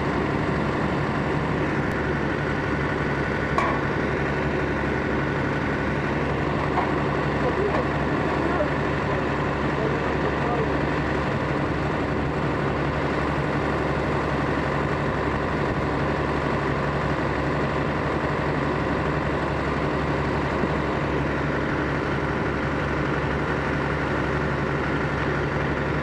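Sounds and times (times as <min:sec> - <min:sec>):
combine harvester engine droning: 0:00.0 - 0:26.0.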